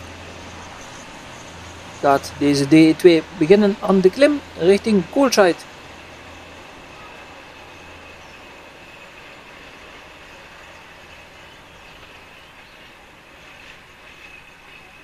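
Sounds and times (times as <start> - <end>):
diesel railcar running: 0.0 - 15.0.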